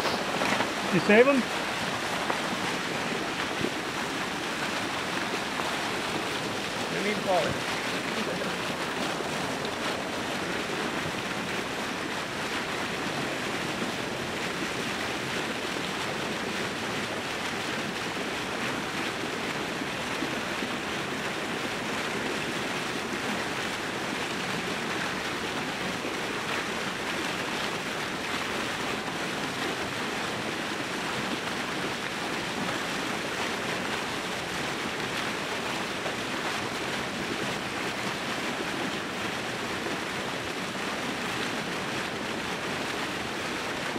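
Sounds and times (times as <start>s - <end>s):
water rushing and splashing: 0.0s - 43.9s.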